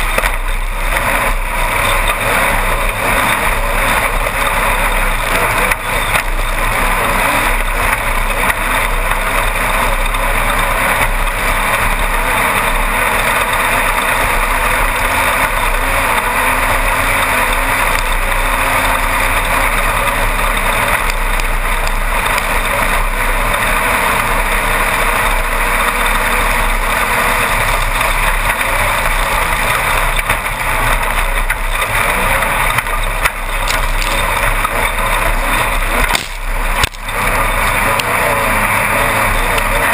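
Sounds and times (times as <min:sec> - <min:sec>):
buggy engine running hard: 0:00.0 - 0:39.9
loud steady rush of noise: 0:00.0 - 0:39.9.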